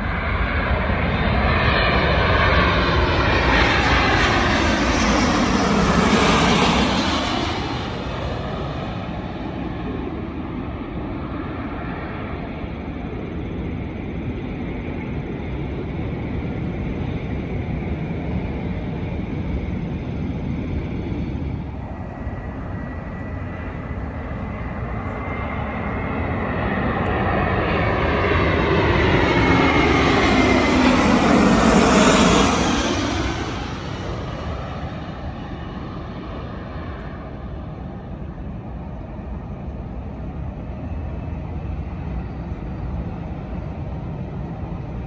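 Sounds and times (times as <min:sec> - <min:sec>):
jet airliner engine on approach: 0:00.0 - 0:45.0.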